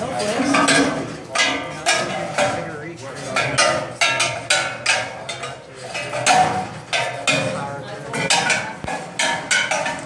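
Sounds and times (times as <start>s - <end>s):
metal rings clanking: 0.0s - 10.0s.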